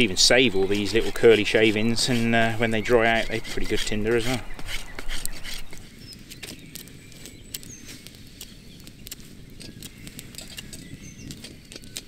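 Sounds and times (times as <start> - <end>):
knife scraping bark off stick: 0.0 - 12.0.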